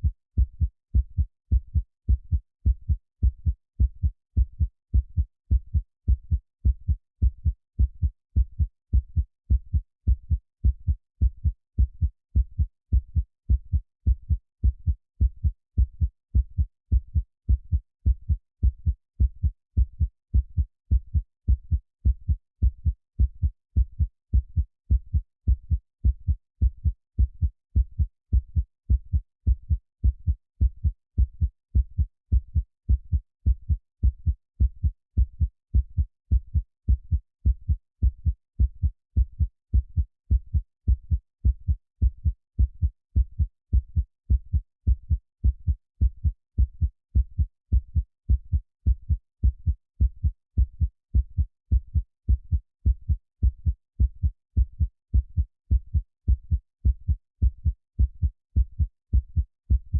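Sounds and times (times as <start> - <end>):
muffled heartbeat: 0.0 - 59.9.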